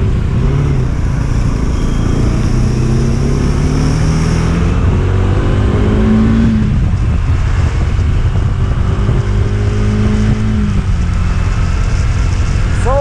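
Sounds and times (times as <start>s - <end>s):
motorcycle engine revving: 0.0s - 13.0s
wind rumble on microphone: 0.0s - 13.0s.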